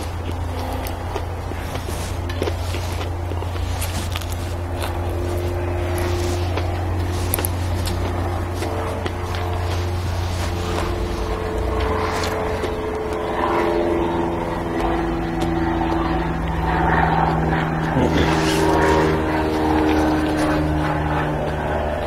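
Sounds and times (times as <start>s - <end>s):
motor engine running: 0.0s - 22.0s
steady tones shifting in pitch: 0.0s - 22.0s.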